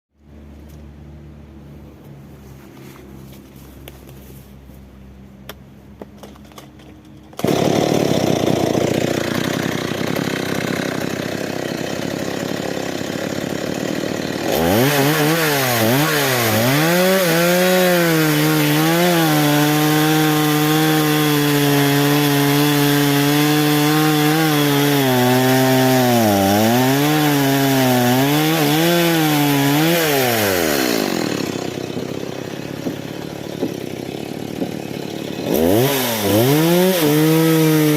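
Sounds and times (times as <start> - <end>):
chainsaw cutting log: 6.3 - 37.9.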